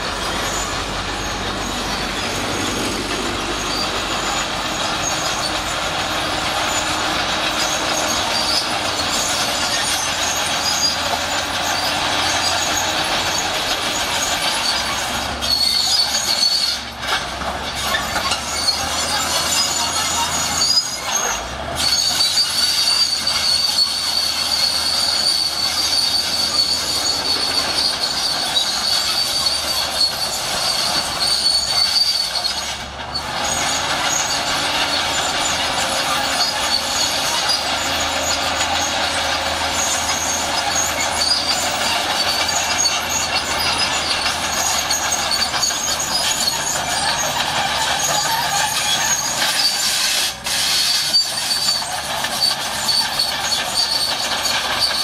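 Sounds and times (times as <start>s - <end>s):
bulldozer diesel engine under load: 0.0s - 55.0s
high-pitched track squeal: 0.0s - 55.0s
steel tracks clanking: 0.0s - 55.0s.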